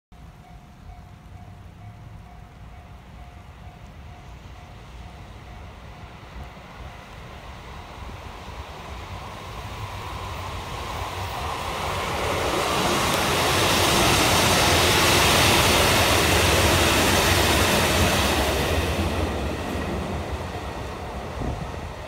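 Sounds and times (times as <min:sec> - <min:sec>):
diesel train passing: 0:00.2 - 0:22.0.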